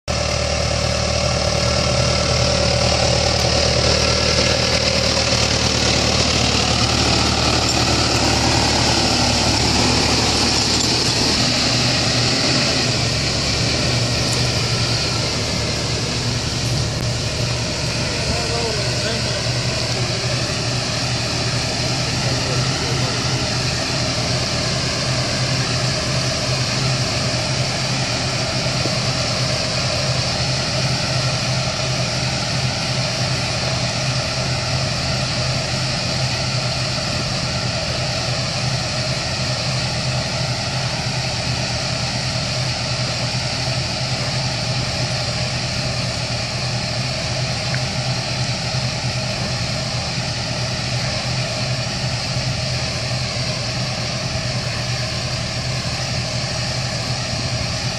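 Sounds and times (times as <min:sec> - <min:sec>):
tractor engine droning: 0:00.0 - 0:57.9.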